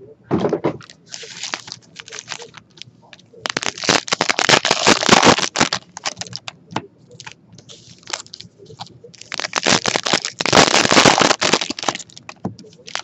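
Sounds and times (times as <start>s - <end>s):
foil wrapper crinkling: 0.8s - 6.6s, 7.2s - 13.0s.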